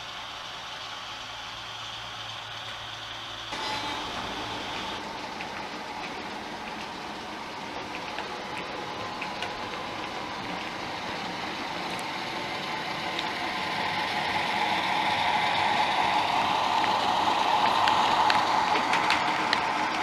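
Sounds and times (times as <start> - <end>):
light clicks of train wheels: 0.0 - 20.0
model train whirring on track: 0.0 - 20.0.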